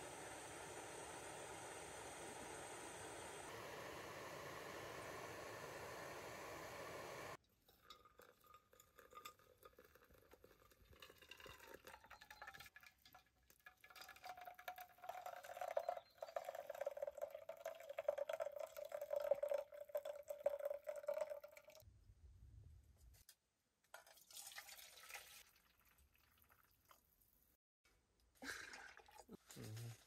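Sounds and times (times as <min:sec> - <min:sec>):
hot water pouring into steel mug: 0:00.0 - 0:21.8, 0:24.0 - 0:27.0.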